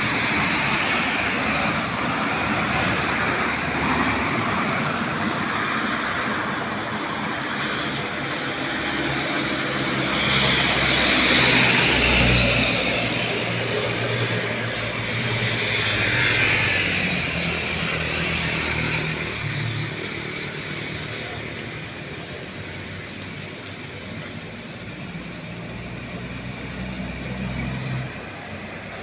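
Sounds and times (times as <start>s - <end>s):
vehicle engines: 0.0s - 29.0s.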